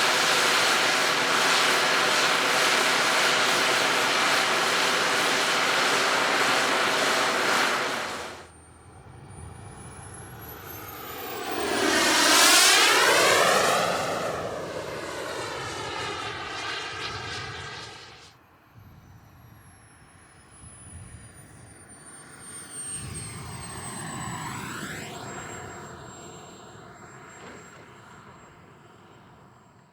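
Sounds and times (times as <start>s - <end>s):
jet fly-by with turbine whine: 0.0s - 29.9s.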